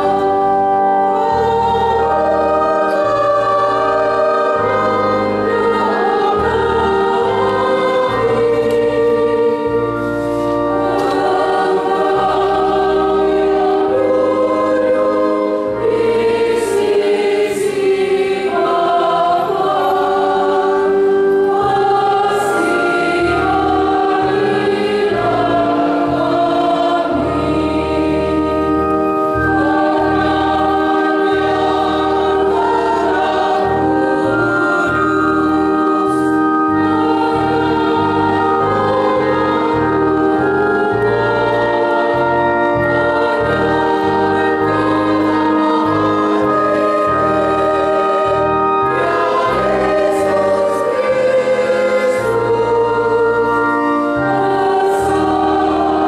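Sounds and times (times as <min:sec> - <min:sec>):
choir singing a hymn: 0:00.0 - 0:56.0
electronic keyboard bass notes: 0:00.0 - 0:56.0.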